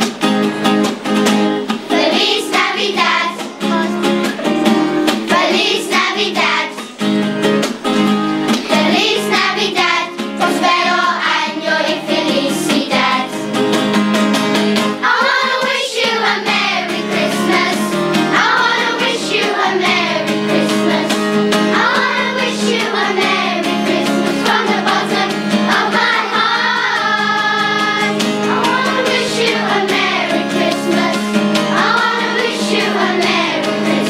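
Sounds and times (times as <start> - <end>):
children's choir singing carol: 1.6 - 7.1, 8.4 - 13.6, 14.9 - 34.0.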